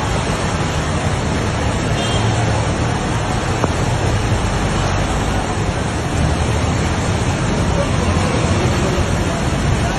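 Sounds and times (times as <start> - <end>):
floodwater rushing: 0.0 - 9.9.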